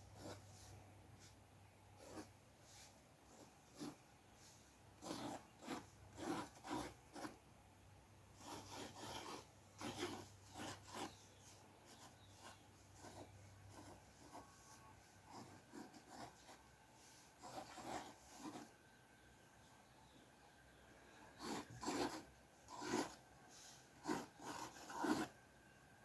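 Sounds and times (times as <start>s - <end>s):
drawing tool scratching on paper: 0.0s - 1.4s, 2.0s - 7.4s, 8.4s - 18.8s, 21.4s - 25.4s.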